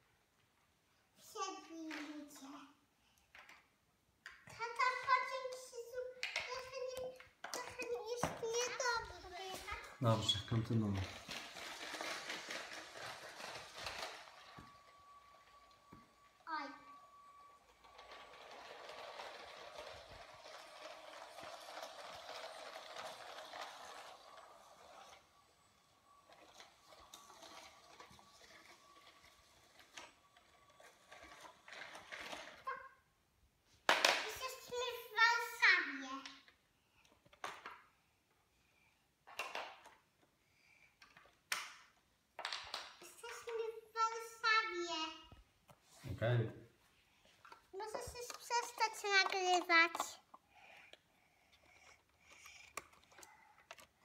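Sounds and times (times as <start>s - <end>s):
toy train motor whirring: 1.4s - 2.7s, 4.5s - 33.1s, 34.0s - 37.8s, 42.6s - 46.0s, 47.1s - 54.0s
wheels clicking over plastic track: 1.6s - 2.6s, 4.2s - 32.9s, 33.9s - 37.9s, 39.3s - 40.1s, 41.0s - 45.2s, 47.4s - 54.0s.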